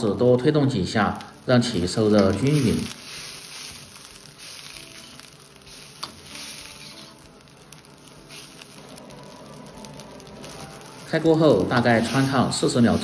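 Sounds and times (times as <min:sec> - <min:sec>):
water sizzling in a wok: 0:00.0 - 0:13.0.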